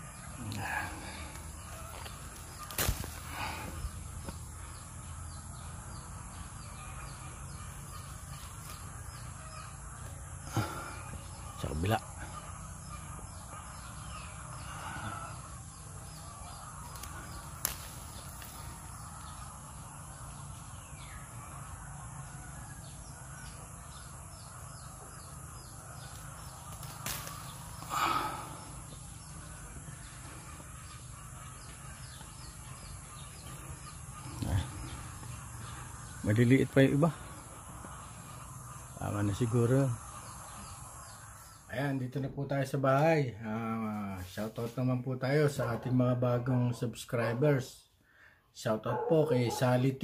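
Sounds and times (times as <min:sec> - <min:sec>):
bird calling: 0:00.0 - 0:42.3, 0:48.9 - 0:50.0.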